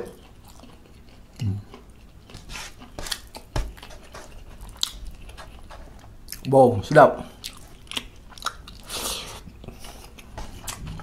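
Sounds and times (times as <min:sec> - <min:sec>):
person chewing food: 0:00.0 - 0:06.5, 0:07.2 - 0:11.0.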